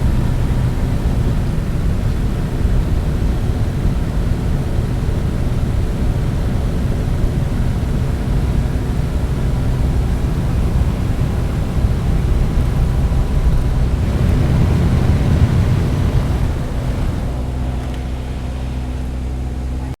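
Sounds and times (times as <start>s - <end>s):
rush of wind: 0.0s - 19.9s
low engine hum: 0.0s - 20.0s.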